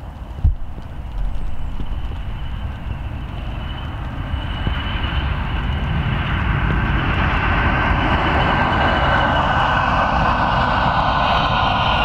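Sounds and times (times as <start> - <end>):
diesel locomotive low rumble: 0.0 - 12.0.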